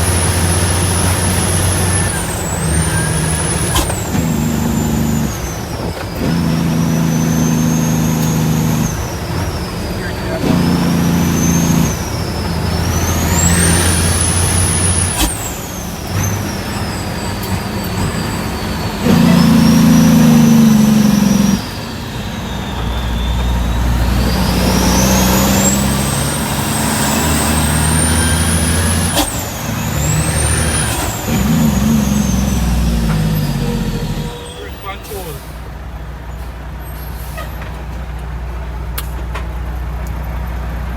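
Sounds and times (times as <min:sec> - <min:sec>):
turbo whistle: 0:00.0 - 0:35.6
diesel truck engine under load: 0:00.0 - 0:40.9.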